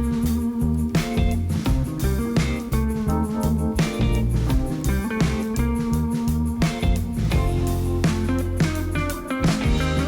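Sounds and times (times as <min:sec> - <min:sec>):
upbeat guitar instrumental music: 0:00.0 - 0:10.0.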